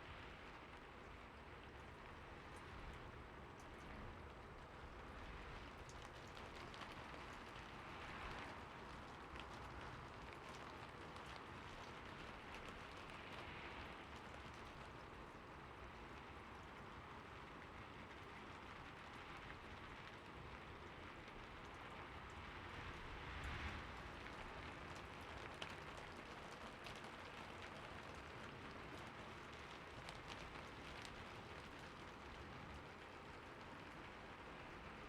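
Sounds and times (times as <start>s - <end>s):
soft rain falling: 0.0s - 35.0s
raindrops ticking: 1.9s - 23.1s, 24.0s - 35.0s.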